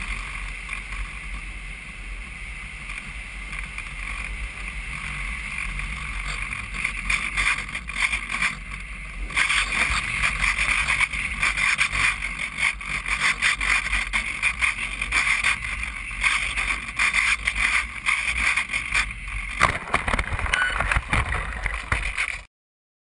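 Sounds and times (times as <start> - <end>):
model plane motor and propeller: 0.0 - 22.5.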